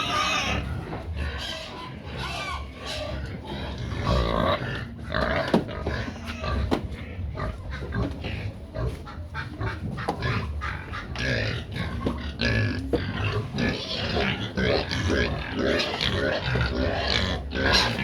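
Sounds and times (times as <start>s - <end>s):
pigs squealing and grunting: 0.0s - 18.0s.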